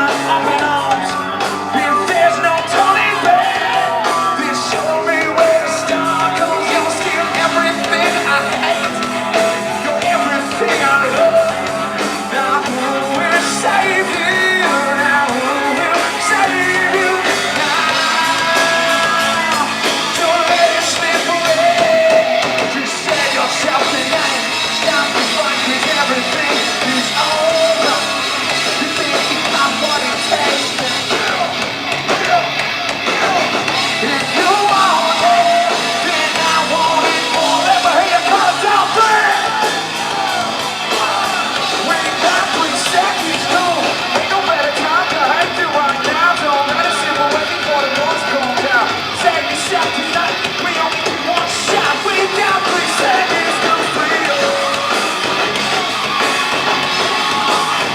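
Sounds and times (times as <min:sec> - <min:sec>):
rock band playing live: 0:00.0 - 0:57.9
singer singing and yelling: 0:00.0 - 0:57.9.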